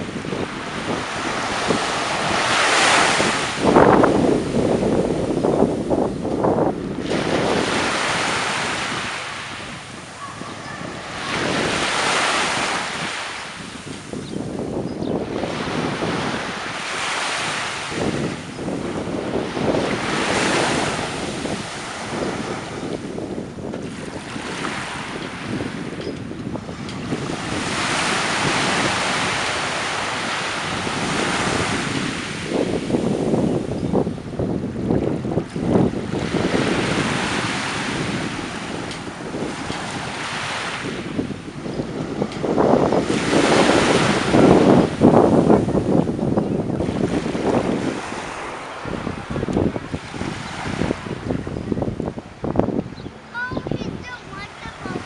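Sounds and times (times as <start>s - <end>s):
surf washing in: 0.0s - 55.0s
wind buffeting microphone: 0.0s - 55.0s.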